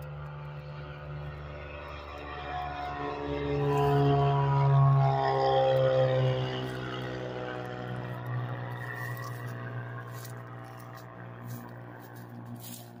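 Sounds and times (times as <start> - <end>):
propeller plane engine climbing: 0.0 - 13.0.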